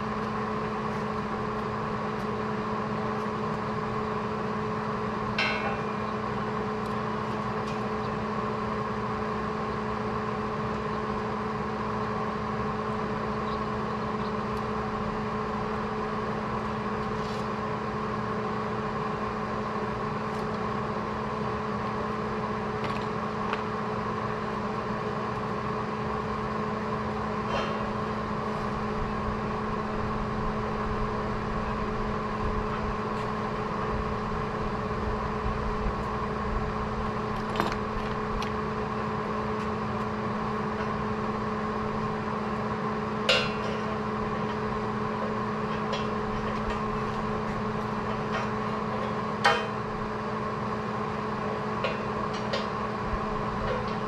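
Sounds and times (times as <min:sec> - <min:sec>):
welding machine hum and fan: 0:00.0 - 0:54.0.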